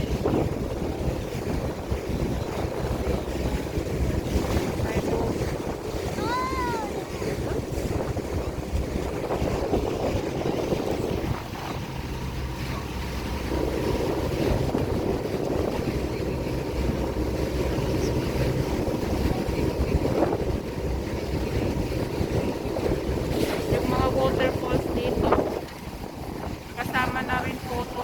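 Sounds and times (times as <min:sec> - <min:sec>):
boat engine running: 0:00.0 - 0:28.0
wind on microphone: 0:00.0 - 0:28.0.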